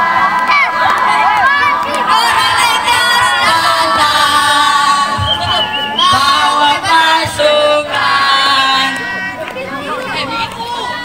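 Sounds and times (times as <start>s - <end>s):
group singing a cheer-song: 0.0s - 11.0s.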